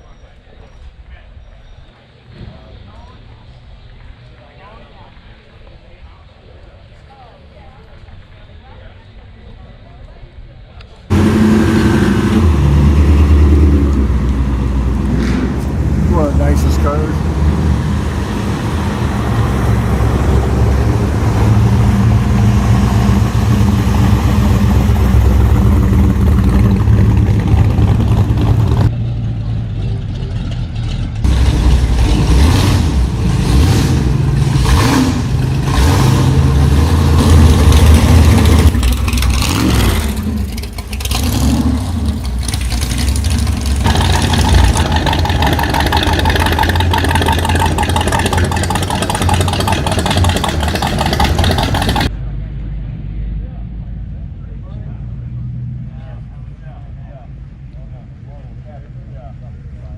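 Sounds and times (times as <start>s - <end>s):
car engines idling and revving: 10.9s - 59.9s.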